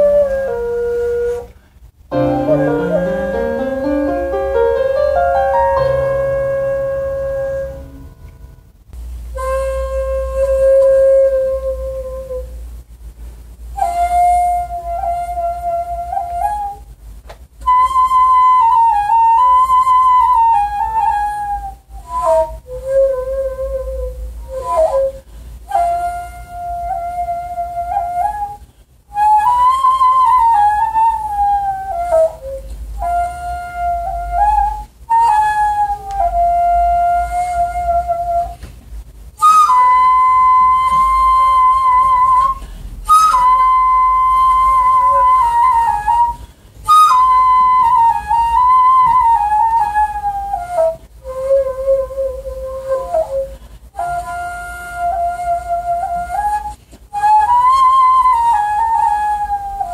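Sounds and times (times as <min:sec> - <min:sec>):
bamboo flute slow melody: 0:00.0 - 0:12.8, 0:13.6 - 0:59.9.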